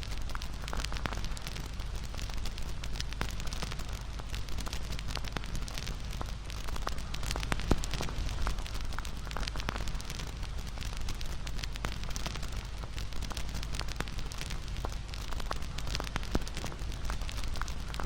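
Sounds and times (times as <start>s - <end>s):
campfire crackling and popping: 0.0s - 18.0s
low rumble of flame: 0.0s - 18.0s.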